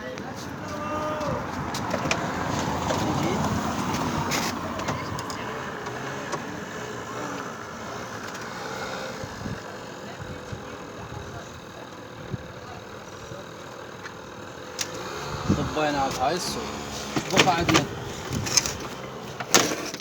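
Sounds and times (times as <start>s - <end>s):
steady traffic or engine noise: 0.0s - 20.0s.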